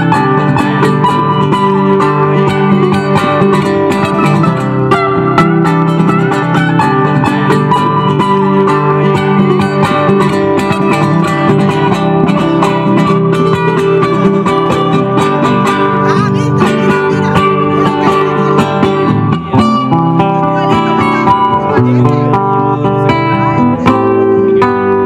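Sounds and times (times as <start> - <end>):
acoustic guitar music: 0.0 - 25.0.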